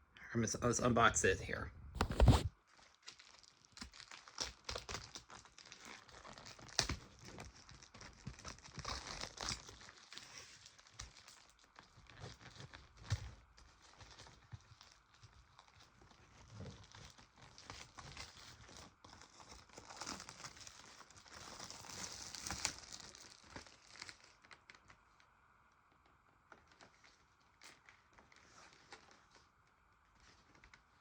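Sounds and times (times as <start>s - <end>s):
plastic wrap crinkling and tearing: 2.0s - 25.3s, 26.5s - 29.5s.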